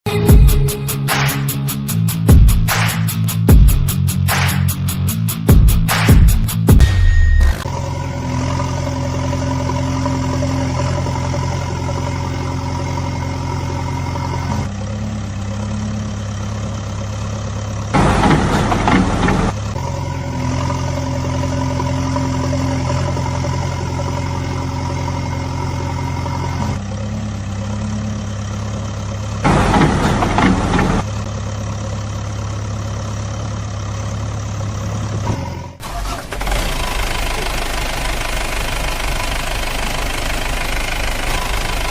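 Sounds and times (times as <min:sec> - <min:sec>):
heavy vehicle engine idling: 0:07.3 - 0:41.9.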